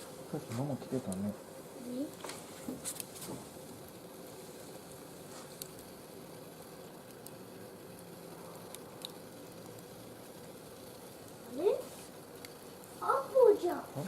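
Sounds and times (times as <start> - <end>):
wood fire hissing and crackling: 0.0 - 14.0.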